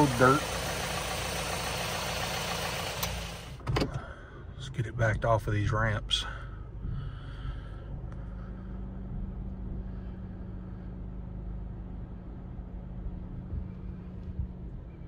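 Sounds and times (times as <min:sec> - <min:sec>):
pickup engine low hum: 0:00.0 - 0:15.0.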